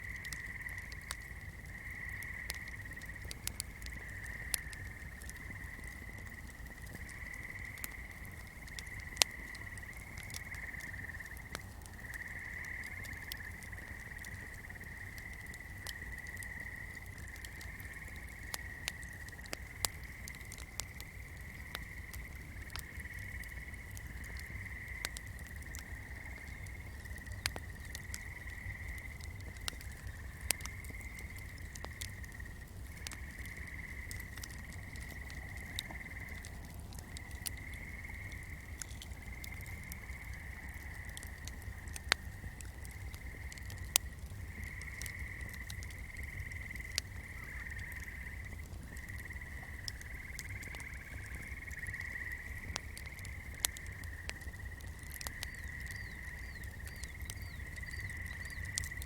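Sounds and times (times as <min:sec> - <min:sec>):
burning candle crackles: 0:00.2 - 0:59.0.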